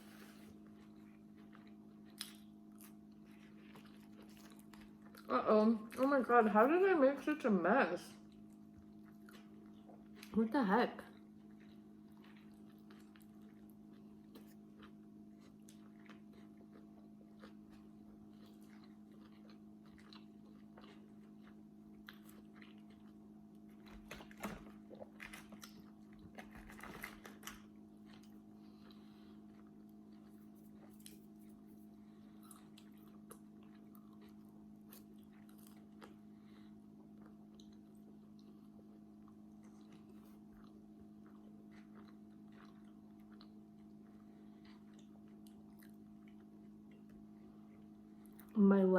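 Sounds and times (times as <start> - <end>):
person chewing food: 0.0 - 5.3, 8.2 - 10.4, 11.0 - 48.6
steady low hum: 0.0 - 48.9.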